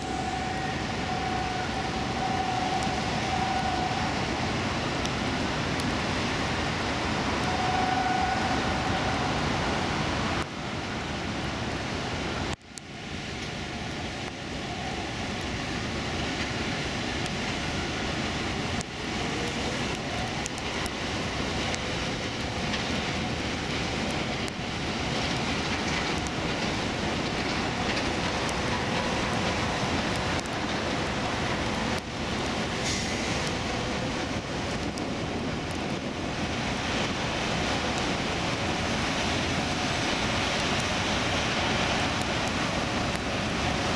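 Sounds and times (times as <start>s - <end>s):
distant highway traffic rumble: 0.0s - 43.9s
rain: 0.0s - 43.9s.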